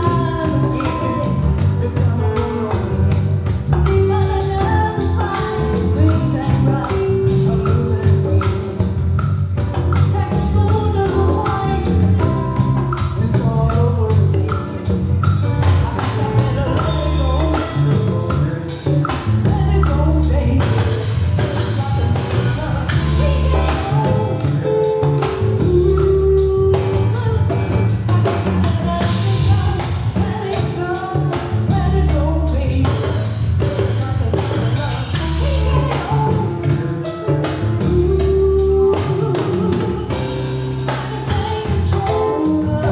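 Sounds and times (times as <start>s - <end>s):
person singing: 0.0s - 3.2s, 10.0s - 42.9s
live band playing: 0.0s - 42.9s.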